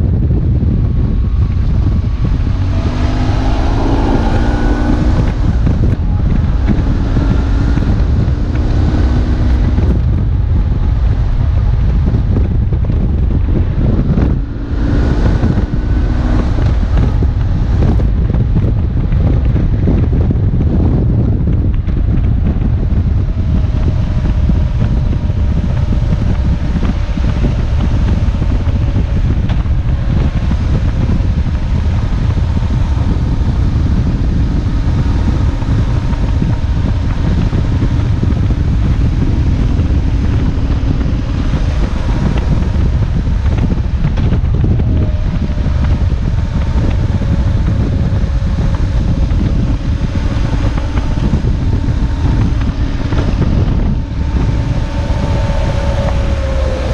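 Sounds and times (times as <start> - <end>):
faint motorcycle engine: 0.0 - 56.9
wind buffeting on microphone: 0.0 - 56.9.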